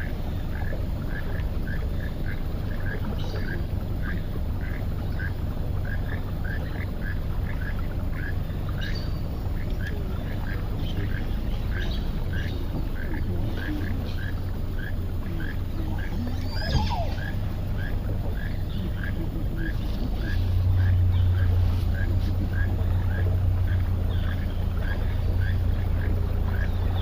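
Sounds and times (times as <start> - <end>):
frog-like croaking calls: 0.0 - 27.0
low steady hum: 0.0 - 27.0.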